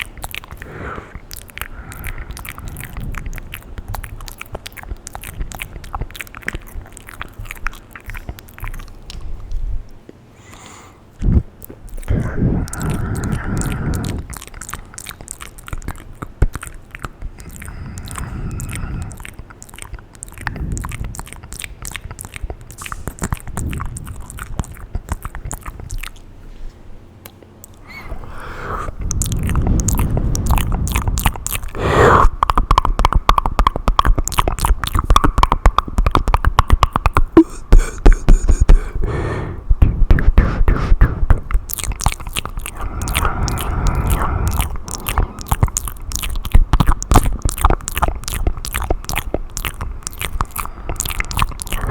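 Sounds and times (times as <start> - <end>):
wet mouth clicks and smacks: 0.0 - 26.4, 27.2 - 51.9.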